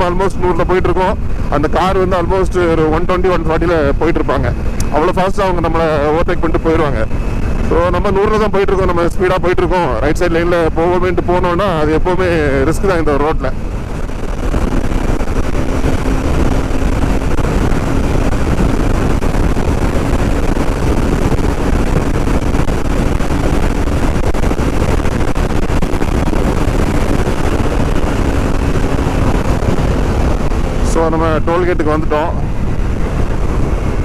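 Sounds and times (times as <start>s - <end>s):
motorcycle engine cruising: 0.0s - 34.0s
wind noise rushing: 0.0s - 34.0s.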